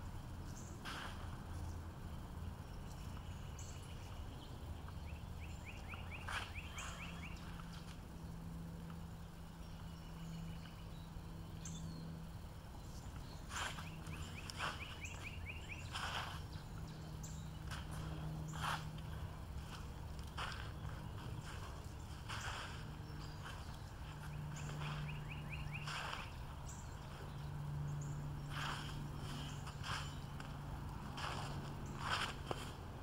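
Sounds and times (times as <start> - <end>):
steady low hum: 0.0 - 33.0
bird chirping trill: 1.6 - 32.6.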